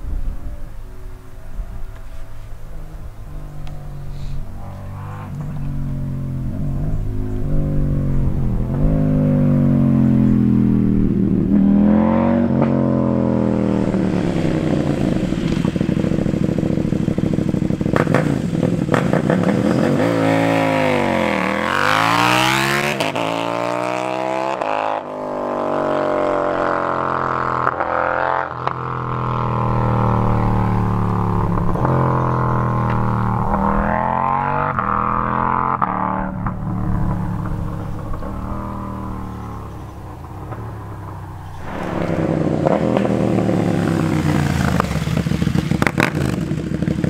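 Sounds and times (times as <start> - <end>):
motorcycle passing by: 0.0 - 47.0
motorcycle accelerating through gears: 1.5 - 47.0.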